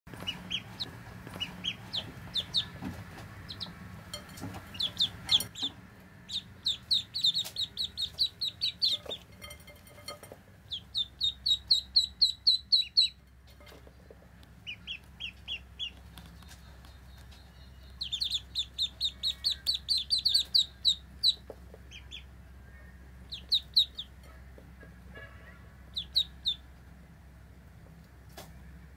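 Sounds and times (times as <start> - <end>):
ducklings peeping: 0.1 - 26.9.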